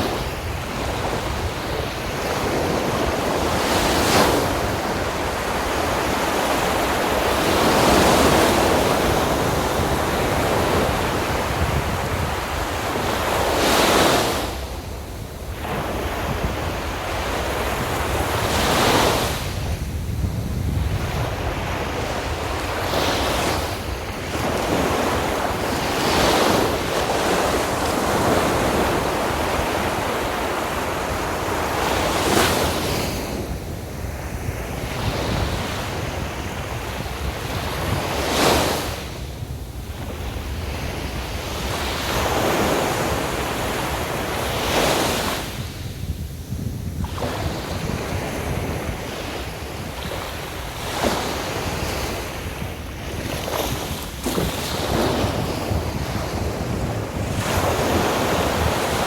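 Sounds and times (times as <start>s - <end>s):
sea waves breaking on beach: 0.0s - 59.0s
wind rumble on microphone: 0.0s - 59.0s.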